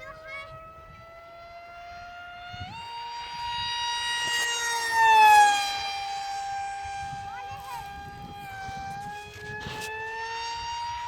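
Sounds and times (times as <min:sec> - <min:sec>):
rc plane motor whining: 0:00.0 - 0:11.0.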